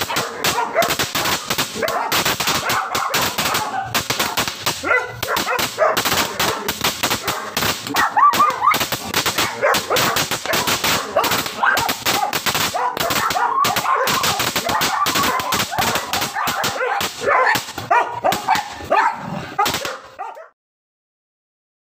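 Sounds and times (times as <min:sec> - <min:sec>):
firework cracks and pops: 0:00.0 - 0:18.9, 0:19.6 - 0:20.0
dog barking and yelping: 0:00.0 - 0:20.5.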